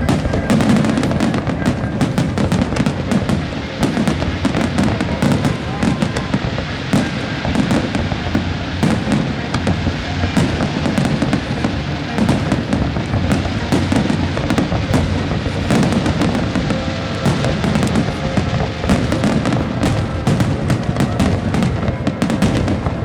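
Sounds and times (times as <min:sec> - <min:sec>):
fireworks bangs and crackles: 0:00.0 - 0:23.0
low rumbling booms: 0:00.0 - 0:23.0
music playing: 0:00.0 - 0:23.0.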